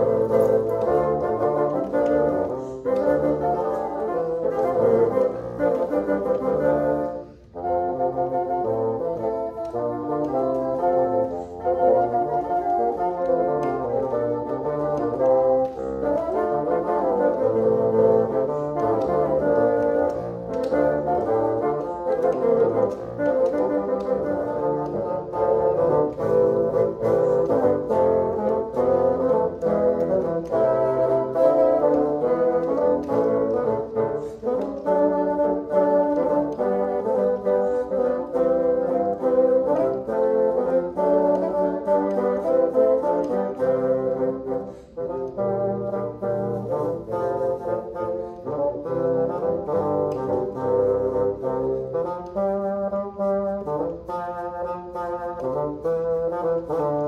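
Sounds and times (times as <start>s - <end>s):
bassoon ensemble playing: 0.0s - 57.0s.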